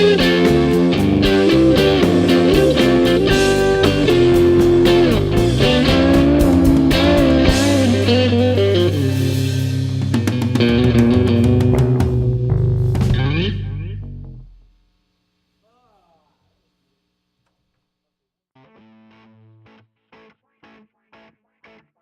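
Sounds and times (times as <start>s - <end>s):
electric guitar playing rock: 0.0s - 14.7s, 18.6s - 22.0s.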